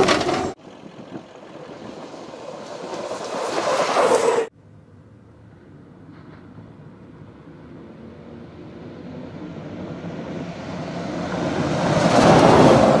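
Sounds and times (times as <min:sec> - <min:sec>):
vehicle approaching: 0:00.0 - 0:13.0.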